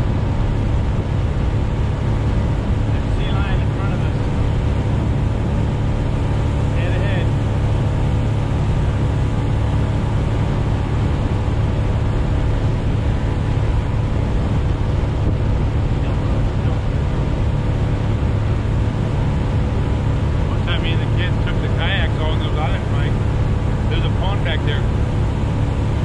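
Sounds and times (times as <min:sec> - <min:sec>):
motorboat engine humming: 0:00.0 - 0:26.0.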